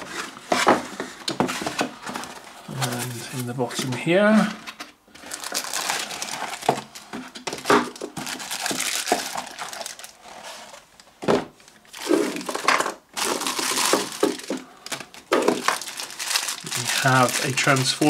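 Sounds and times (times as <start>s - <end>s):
plastic bags crinkling: 1.7s - 3.9s, 5.1s - 18.0s.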